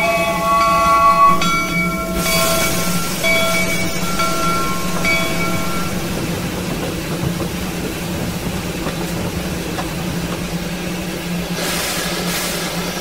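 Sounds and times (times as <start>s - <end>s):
steam hissing: 0.2s - 13.0s
steady low hum: 0.4s - 11.5s.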